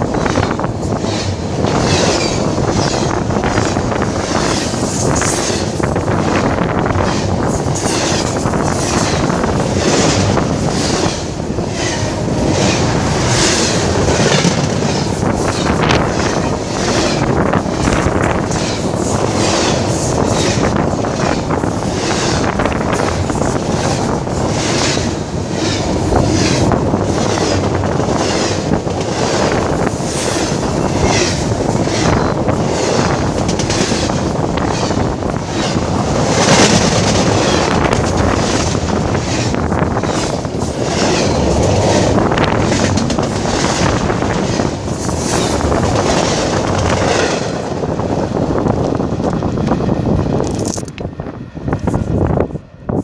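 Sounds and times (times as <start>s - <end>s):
train rumbling past: 0.0s - 53.0s
wind buffeting microphone: 0.0s - 53.0s.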